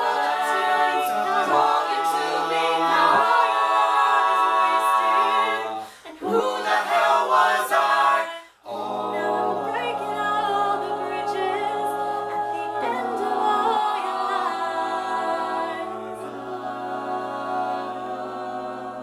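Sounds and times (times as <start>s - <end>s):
a cappella group singing chords: 0.0s - 19.0s.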